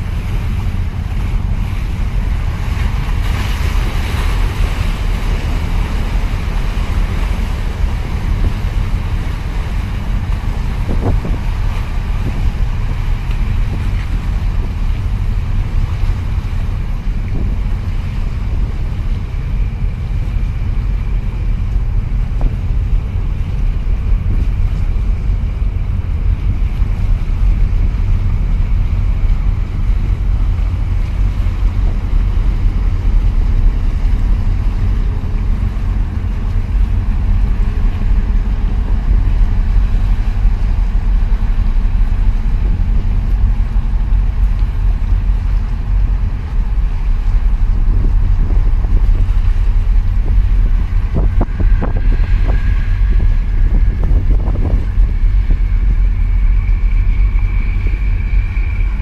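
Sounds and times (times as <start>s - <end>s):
ship low rumble: 0.0s - 59.0s
wash of water: 0.0s - 59.0s
wind buffeting microphone: 0.0s - 59.0s
workboat engine: 0.0s - 59.0s.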